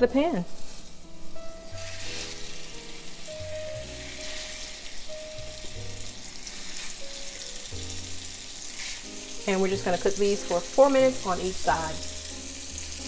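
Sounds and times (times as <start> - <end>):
meat sizzling in a skillet: 0.1 - 13.0.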